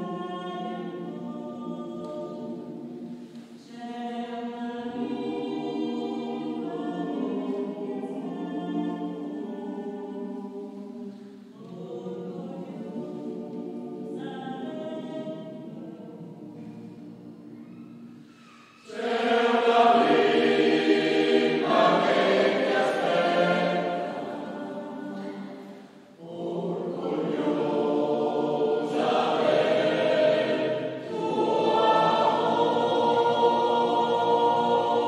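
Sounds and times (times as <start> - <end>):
choir singing in a church: 0.0 - 35.0.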